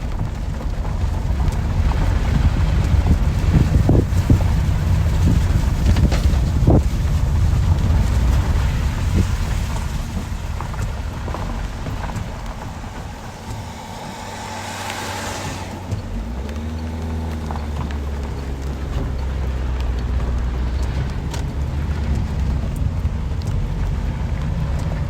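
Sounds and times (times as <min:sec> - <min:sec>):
tyre hiss on wet road: 0:00.0 - 0:20.8
engine humming: 0:00.0 - 0:25.0.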